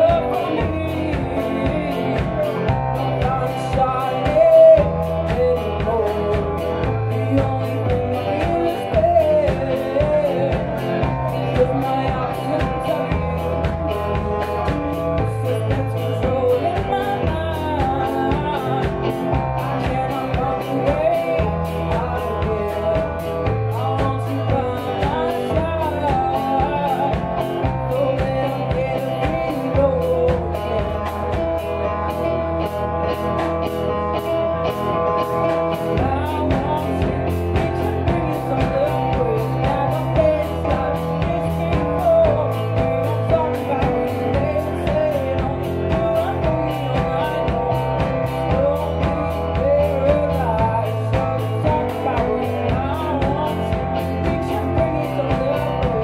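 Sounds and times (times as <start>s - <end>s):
woman singing: 0.0s - 33.4s, 34.7s - 56.0s
drum kit beat: 0.0s - 56.0s
electric guitar: 0.0s - 56.0s.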